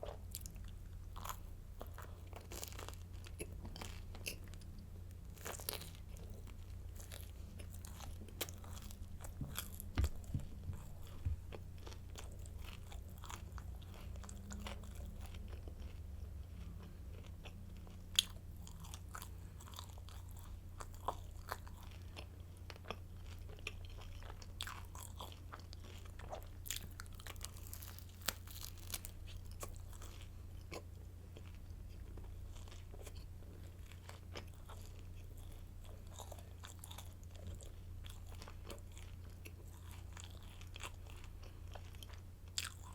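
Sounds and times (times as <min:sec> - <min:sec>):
crunchy bread chewing: 0:00.0 - 0:42.9
steady low hum: 0:00.0 - 0:42.9.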